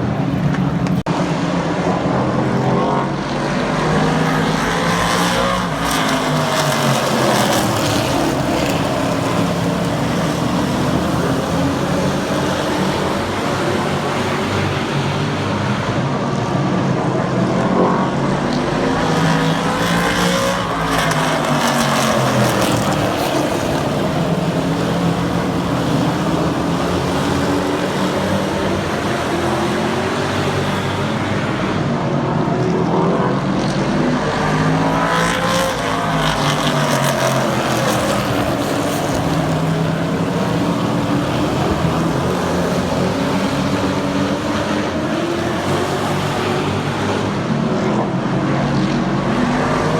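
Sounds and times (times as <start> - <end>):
racing truck engines: 0.0 - 49.9.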